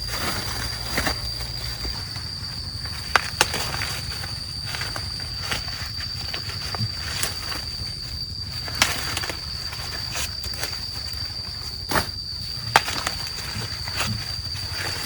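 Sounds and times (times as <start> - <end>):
low rumble: 0.0 - 12.6.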